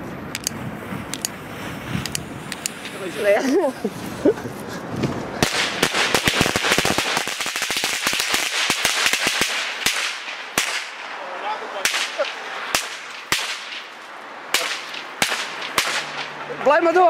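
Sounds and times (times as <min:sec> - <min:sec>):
firecrackers crackling: 0:00.3 - 0:17.0.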